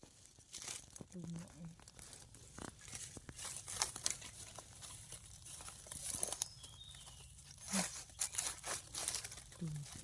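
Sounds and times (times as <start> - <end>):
dry leaves rustling and crackling: 0.0 - 10.0.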